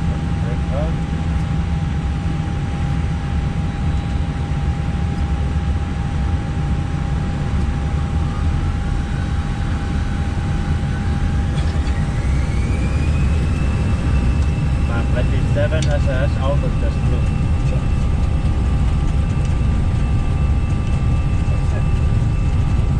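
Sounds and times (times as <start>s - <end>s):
electrical hum: 0.0s - 22.9s
jet engines whining: 0.0s - 22.9s
low rumble: 0.0s - 22.9s.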